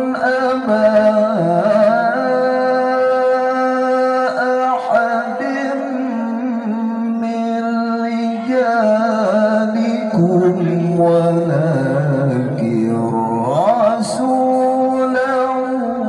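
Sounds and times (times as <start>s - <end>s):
man chanting over loudspeaker: 0.0s - 16.0s.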